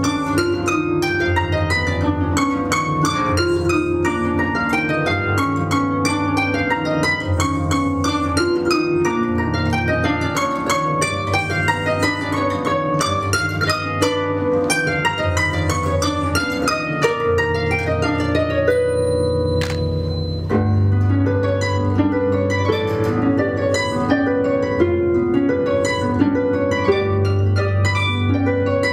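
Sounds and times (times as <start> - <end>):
harps playing: 0.0 - 28.9.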